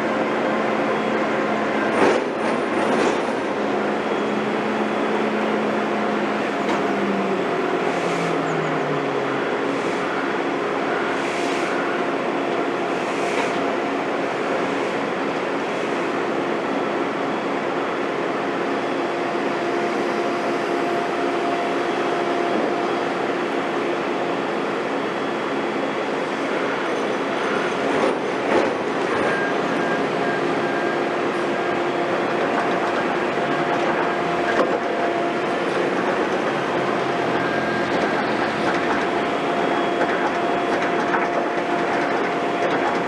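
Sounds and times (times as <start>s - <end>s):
heavy construction machinery running: 0.0s - 43.0s.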